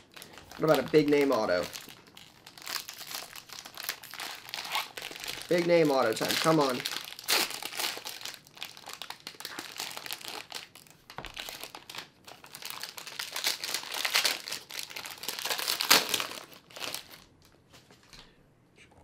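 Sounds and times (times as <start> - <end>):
foil wrapper crinkling: 0.0 - 17.4.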